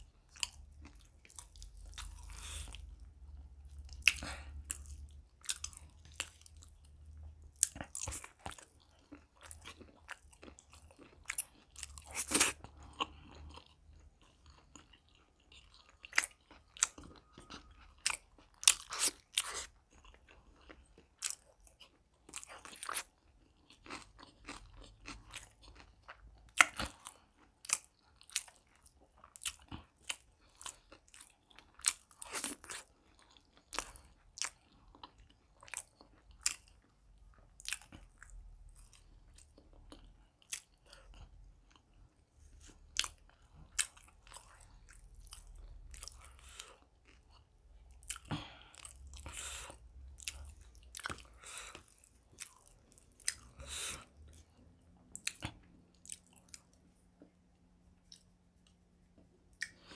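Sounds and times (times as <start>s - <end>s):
man chewing food: 0.0s - 59.9s.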